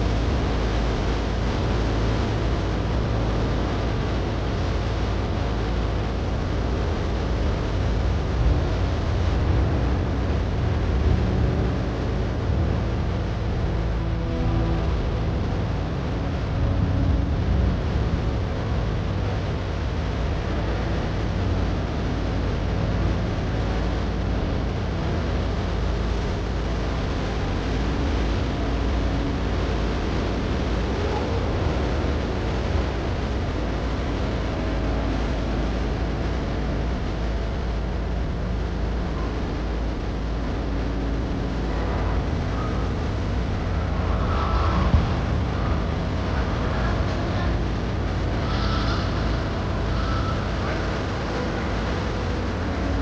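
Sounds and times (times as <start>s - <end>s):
motorboat engine rumbling: 0.0s - 53.0s
wind: 0.0s - 53.0s.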